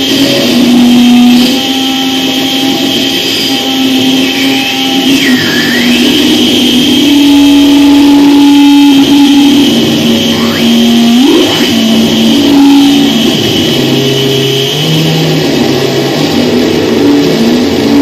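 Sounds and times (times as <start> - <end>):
droning noise music: 0.0 - 18.0
high whine and hiss: 0.0 - 18.0.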